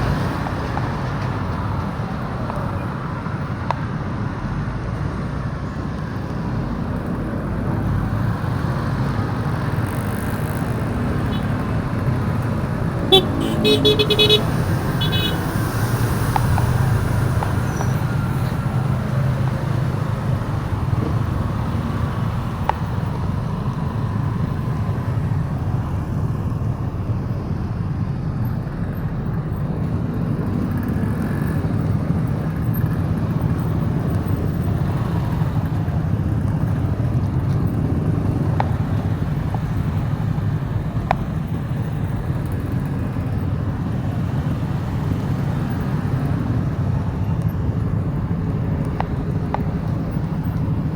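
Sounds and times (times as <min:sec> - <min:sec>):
motorbike engine and road rumble: 0:00.0 - 0:50.9.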